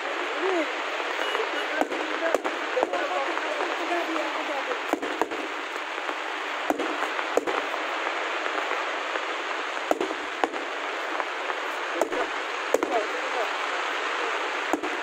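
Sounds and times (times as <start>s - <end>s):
fireworks bursting: 0.0s - 15.0s
steady dense hiss: 0.0s - 15.0s.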